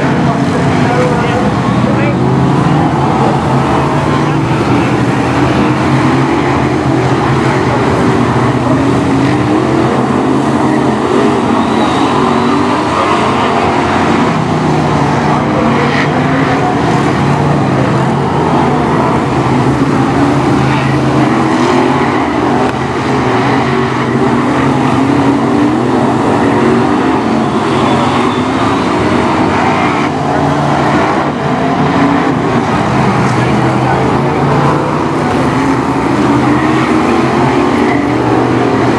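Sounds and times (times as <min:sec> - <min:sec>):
racing car engines: 0:00.0 - 0:38.9.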